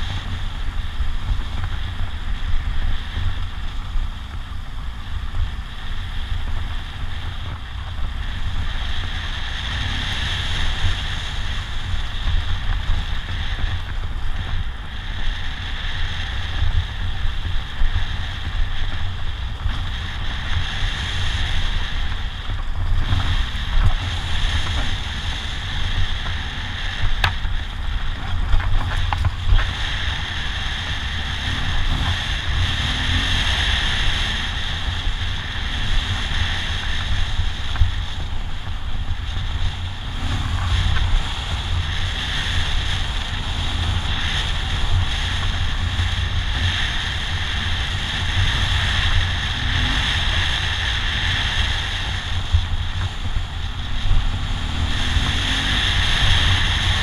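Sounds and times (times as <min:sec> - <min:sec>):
motorcycle engine running: 0:00.0 - 0:57.0
wind buffeting on microphone: 0:00.0 - 0:57.0.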